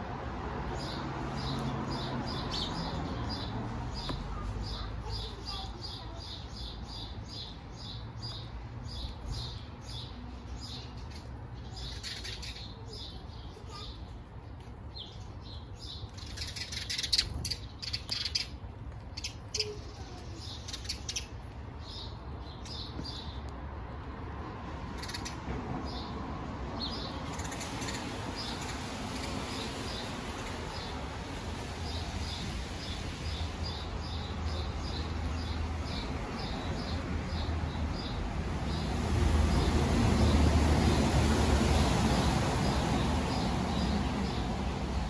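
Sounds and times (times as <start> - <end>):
small birds chirping: 0.6 - 45.0.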